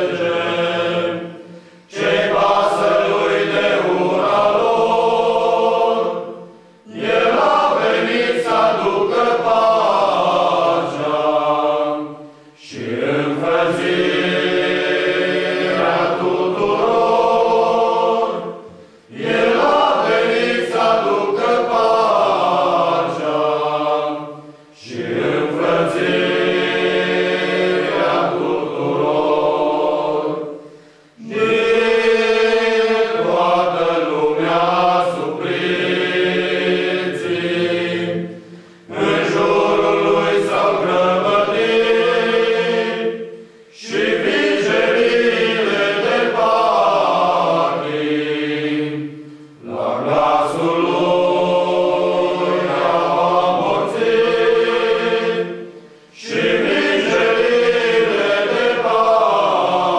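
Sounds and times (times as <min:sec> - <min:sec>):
male choir singing a cappella: 0:00.0 - 0:59.9.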